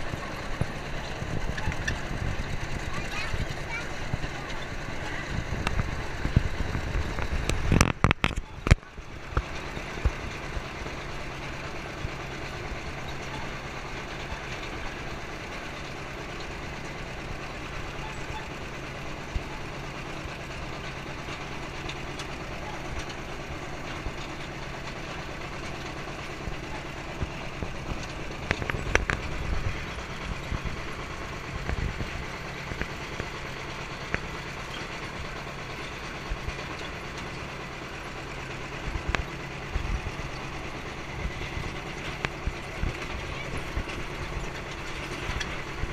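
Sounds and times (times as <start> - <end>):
tractor engine running: 0.0 - 45.9
wagon rattling and clanking: 0.0 - 45.9.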